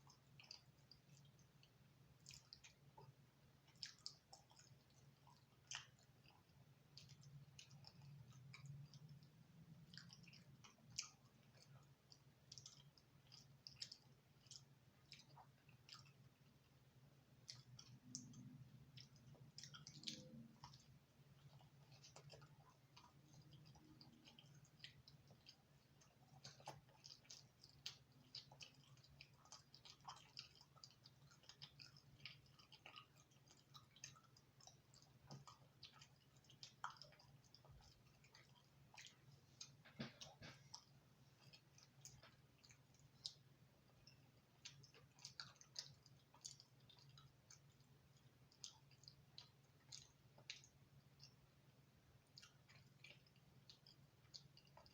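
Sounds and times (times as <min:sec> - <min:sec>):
chewing crispy pizza: 0:00.0 - 0:54.9
wet mouth clicks: 0:00.1 - 0:03.1, 0:03.7 - 0:16.2, 0:17.4 - 0:51.4, 0:52.3 - 0:54.9.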